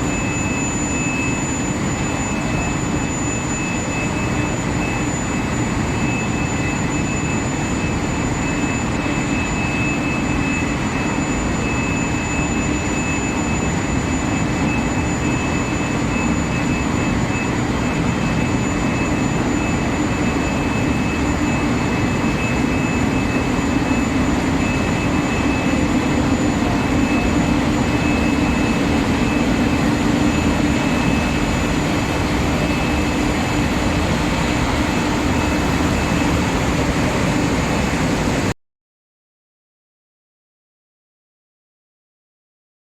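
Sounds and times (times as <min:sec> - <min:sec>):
steady industrial drone: 0:00.0 - 0:38.5
high-pitched steady whines: 0:00.0 - 0:38.6.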